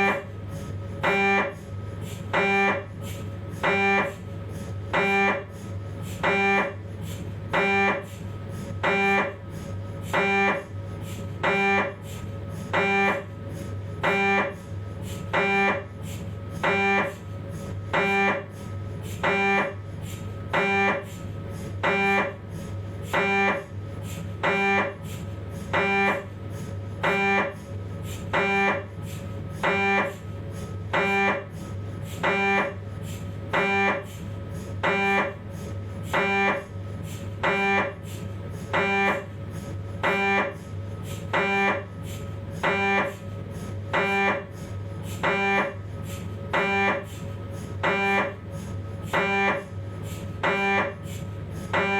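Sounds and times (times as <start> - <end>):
mri scanner buzzing tone: 0.0 - 51.9
steady low hum: 0.0 - 51.9.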